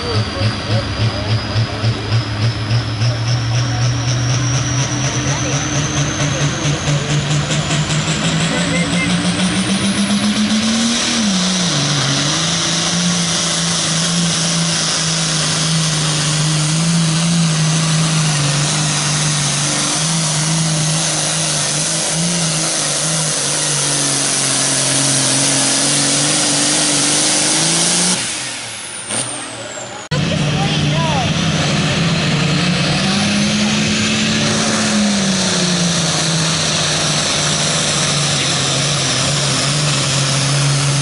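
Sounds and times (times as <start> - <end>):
diesel tractor engine at full power: 0.0 - 41.0.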